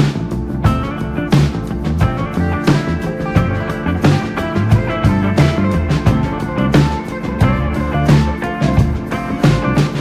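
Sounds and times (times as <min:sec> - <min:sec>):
drum kit beat: 0:00.0 - 0:10.0
rock music with electric guitar: 0:00.0 - 0:10.0.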